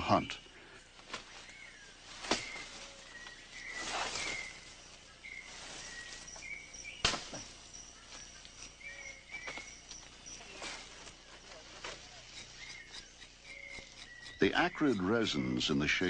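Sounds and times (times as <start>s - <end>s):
rainforest ambience: 0.0s - 16.0s
bird chirps: 1.3s - 16.0s.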